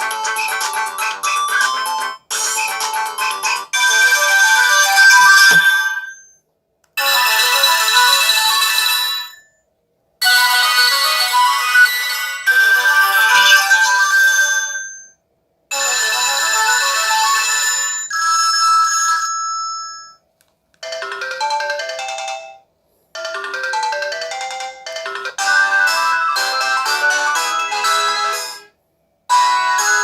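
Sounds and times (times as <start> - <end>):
phone ringtone melodies: 0.0 - 6.3, 7.0 - 9.5, 10.2 - 20.2, 20.8 - 28.6, 29.3 - 30.0.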